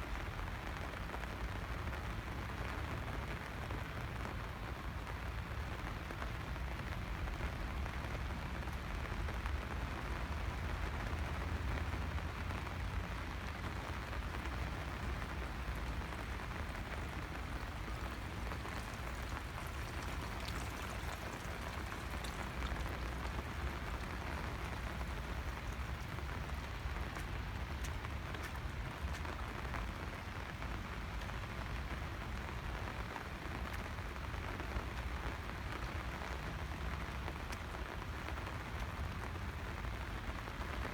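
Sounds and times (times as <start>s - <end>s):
steady rain pattering: 0.0s - 40.9s
raindrop ticks: 0.1s - 40.9s.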